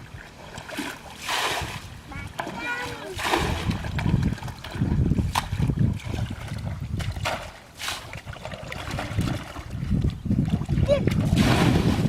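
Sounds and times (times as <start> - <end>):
water sloshing: 0.0 - 12.0
water splashes: 0.0 - 12.0
wind rumble on microphone: 1.5 - 12.0.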